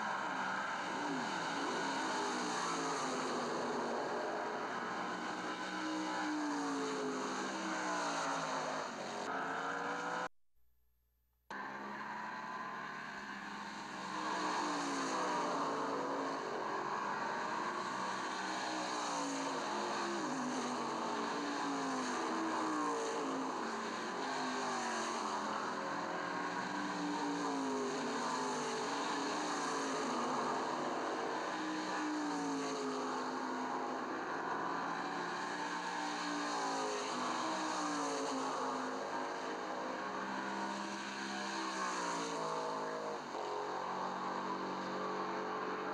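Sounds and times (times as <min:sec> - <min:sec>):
racing car engines revving: 0:00.0 - 0:10.3, 0:11.5 - 0:45.9.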